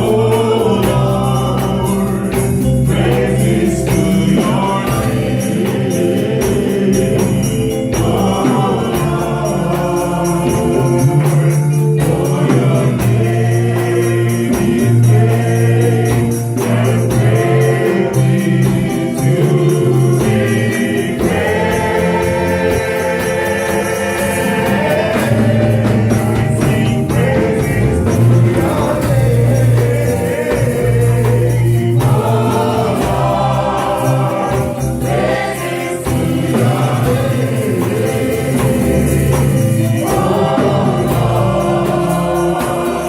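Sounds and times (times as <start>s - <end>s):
choir singing with band: 0.0s - 43.0s
tambourine jingling: 0.0s - 43.0s.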